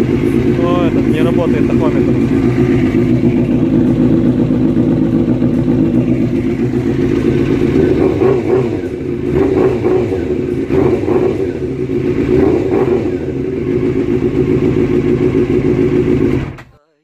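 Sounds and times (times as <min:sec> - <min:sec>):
motorcycle engine running: 0:00.0 - 0:16.7.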